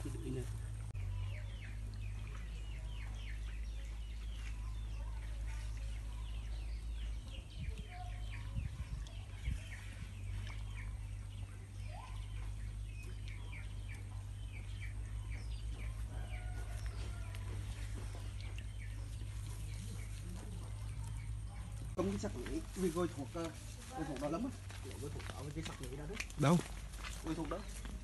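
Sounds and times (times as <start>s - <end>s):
steady low rumble: 0.0s - 23.9s
birds chirping: 0.0s - 28.0s.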